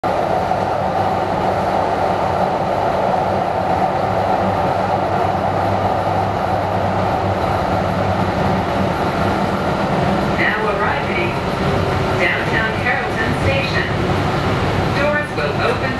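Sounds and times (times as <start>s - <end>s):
light rail train running: 0.0s - 15.9s.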